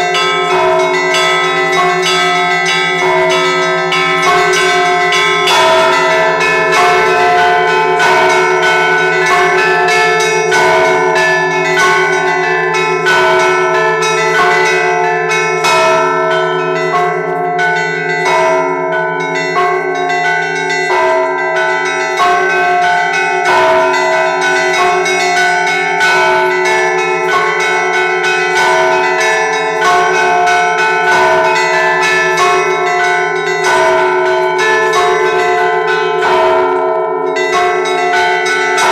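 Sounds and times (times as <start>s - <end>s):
deep church bells ringing: 0.0s - 38.9s
small bells struck rapidly: 0.0s - 38.9s.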